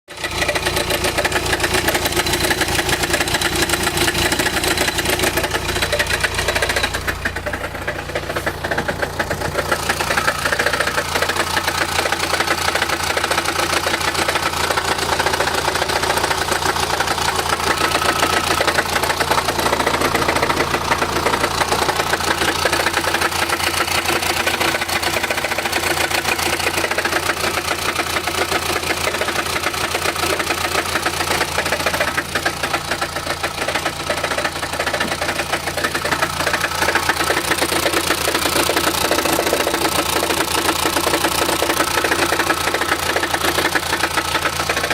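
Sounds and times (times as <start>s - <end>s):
diesel engine idling with rattle: 0.1s - 44.9s.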